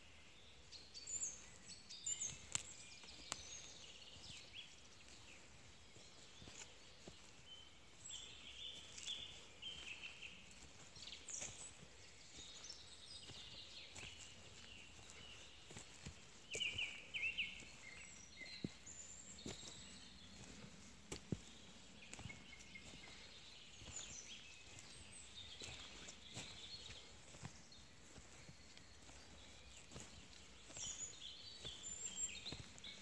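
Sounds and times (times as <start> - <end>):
small birds chirping: 0.0 - 33.0
footsteps on forest path: 0.2 - 33.0.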